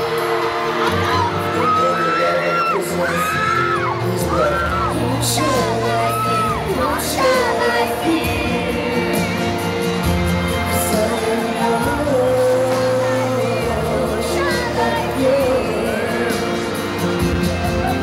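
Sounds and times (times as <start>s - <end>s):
crowd noise: 0.0s - 18.0s
keyboard and band backing: 0.0s - 18.0s
men singing pop ballad: 0.0s - 18.0s.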